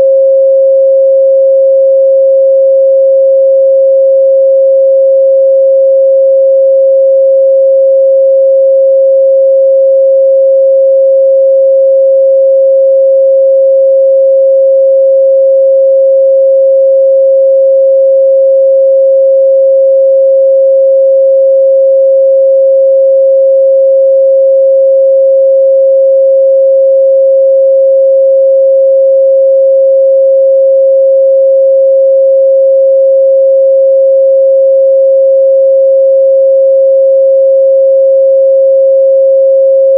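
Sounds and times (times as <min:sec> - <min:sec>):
steady sine test tone: 0:00.0 - 0:39.9.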